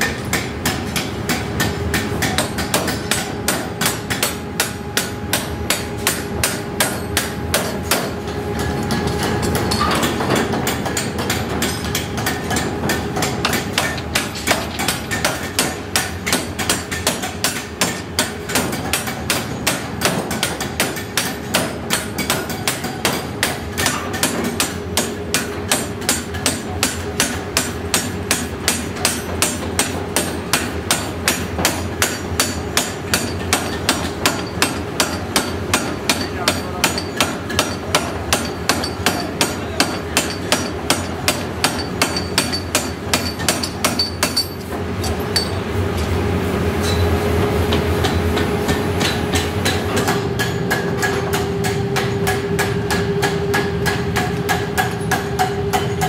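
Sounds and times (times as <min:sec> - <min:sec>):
power hammer striking hot steel: 0:00.0 - 0:45.6, 0:48.0 - 0:56.0
steady machine hum: 0:00.0 - 0:56.0.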